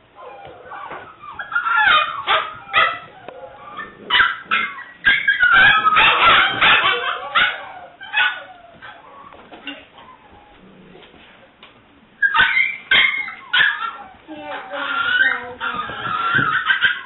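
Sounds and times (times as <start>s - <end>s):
puppy yipping and whimpering: 0.2s - 9.4s, 12.2s - 17.0s.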